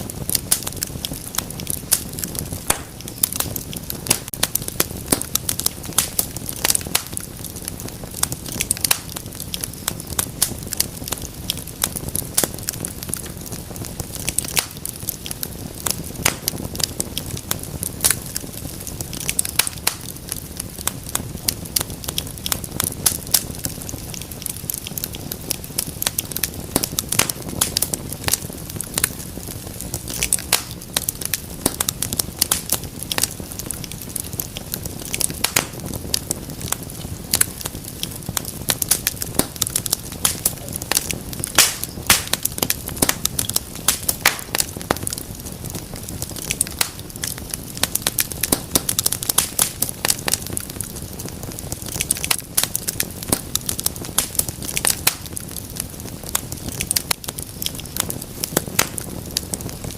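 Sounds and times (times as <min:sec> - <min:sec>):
low rush of flames: 0:00.0 - 0:59.9
wood fire crackling and popping: 0:00.0 - 0:59.9.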